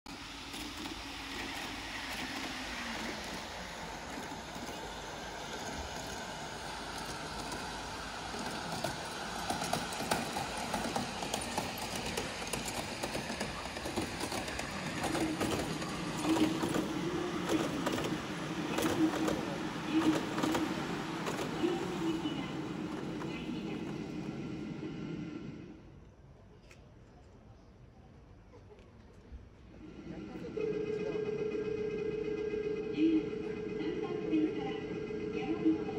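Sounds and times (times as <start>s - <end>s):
model train rolling on track: 0.1s - 26.1s, 29.1s - 35.9s.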